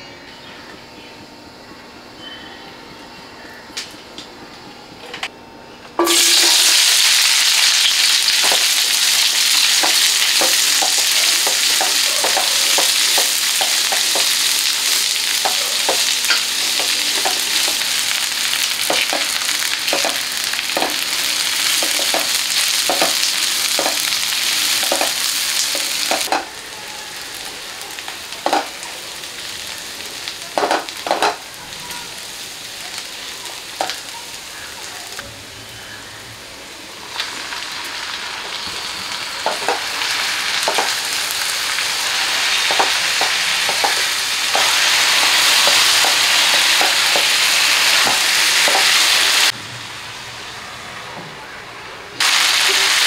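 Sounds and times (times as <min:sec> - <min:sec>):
onions sizzling in oil: 0:06.0 - 0:50.7, 0:52.2 - 0:53.0.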